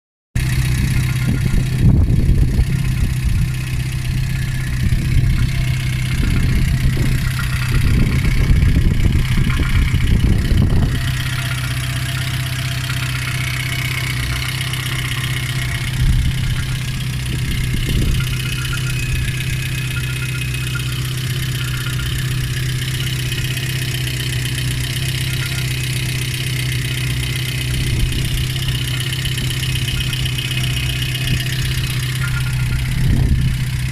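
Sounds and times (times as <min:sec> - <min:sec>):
car engine idling: 0:00.4 - 0:33.9
engine knock: 0:00.4 - 0:33.9.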